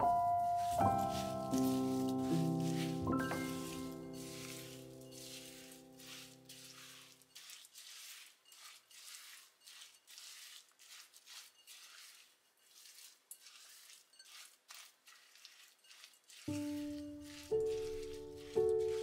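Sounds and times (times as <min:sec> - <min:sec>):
spatula scraping and stirring dough: 0:00.0 - 0:19.0.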